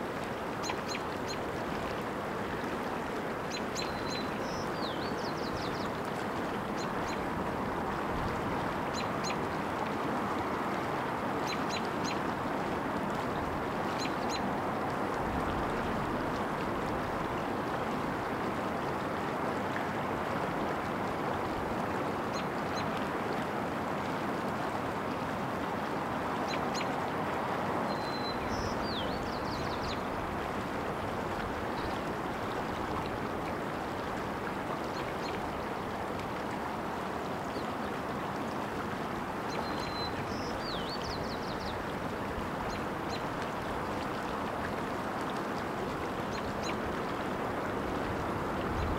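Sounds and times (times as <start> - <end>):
water babbling: 0.0 - 48.9.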